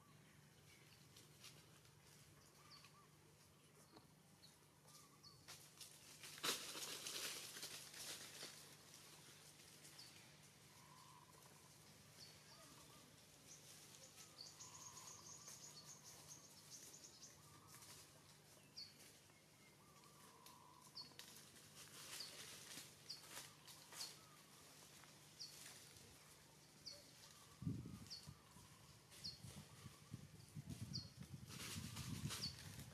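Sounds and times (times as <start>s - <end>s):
leaves and twigs rustling: 0.6s - 32.9s.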